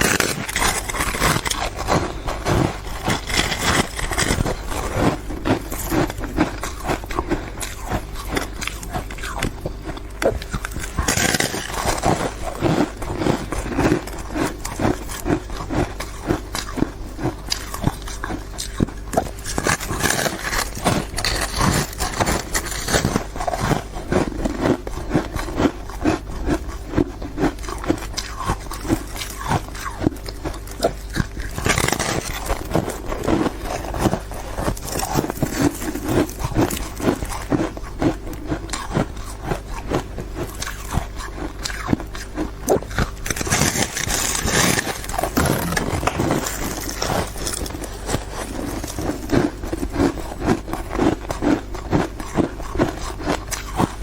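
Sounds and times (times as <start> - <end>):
ice being crunched and chewed: 0.0 - 54.0.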